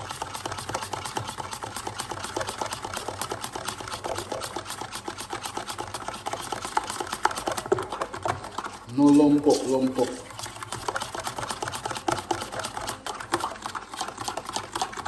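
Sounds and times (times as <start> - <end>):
spoon stirring in plastic cup: 0.0 - 15.0.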